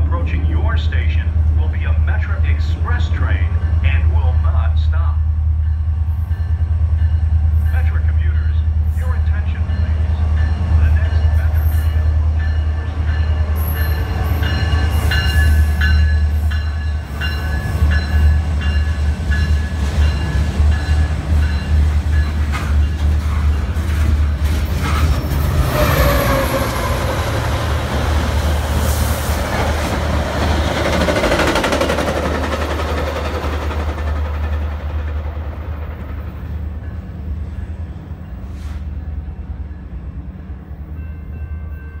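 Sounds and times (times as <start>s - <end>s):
commuter train speeding past: 0.0s - 42.0s
freight train rumbling past: 0.0s - 42.0s.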